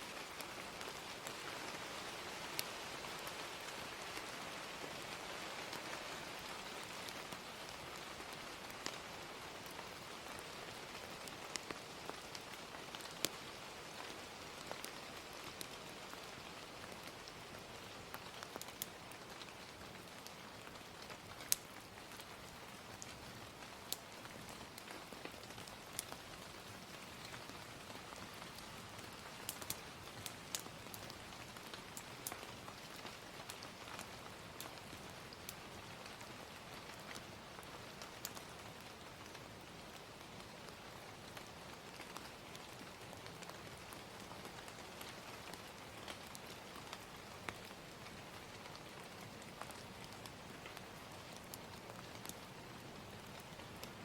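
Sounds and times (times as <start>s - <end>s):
gentle rain hiss: 0.0s - 54.0s
wood fire crackling and popping: 0.1s - 54.0s.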